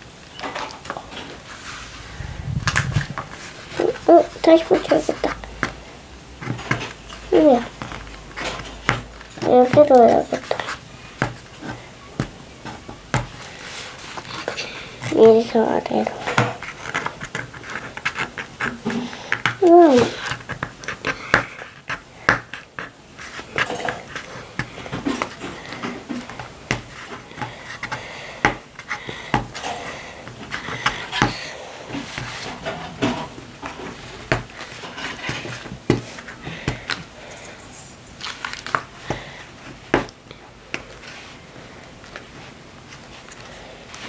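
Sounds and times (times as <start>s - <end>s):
paper rustling: 0.5s - 28.2s, 31.9s - 40.1s.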